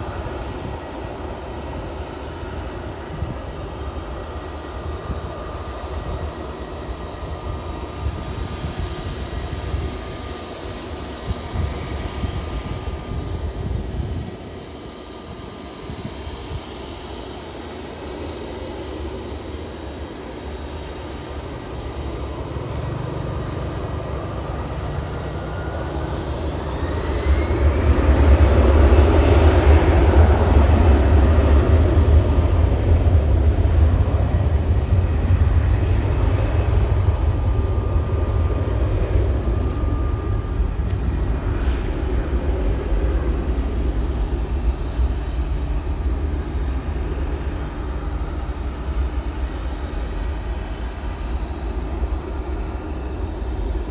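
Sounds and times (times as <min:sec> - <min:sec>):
jet engines at takeoff: 0:00.0 - 0:53.9.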